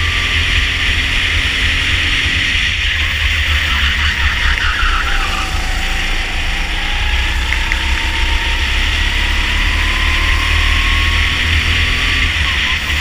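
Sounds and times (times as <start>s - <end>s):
constant low rumble: 0.0s - 13.0s
go-kart engine accelerating: 0.0s - 13.0s.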